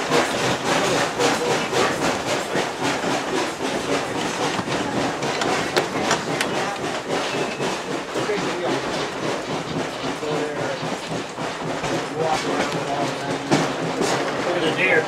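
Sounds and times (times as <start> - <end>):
rail car rattling over track: 0.0 - 15.0.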